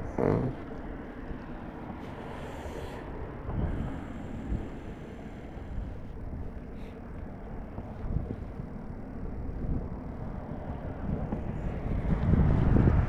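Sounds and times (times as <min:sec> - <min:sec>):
wind buffeting microphone: 0:00.8 - 0:13.0.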